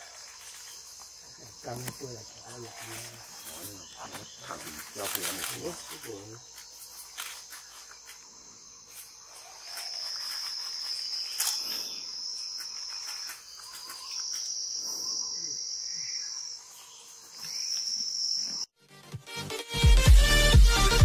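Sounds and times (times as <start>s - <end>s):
insects trilling: 0.0s - 18.7s.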